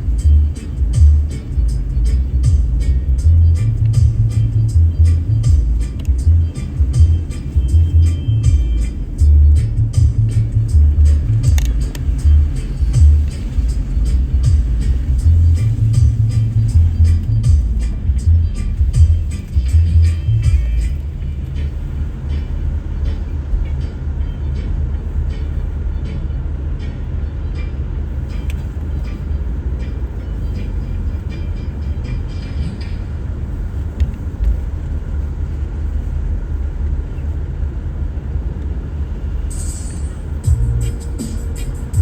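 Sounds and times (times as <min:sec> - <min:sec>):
vehicle engine and road rumble: 0:00.0 - 0:42.0.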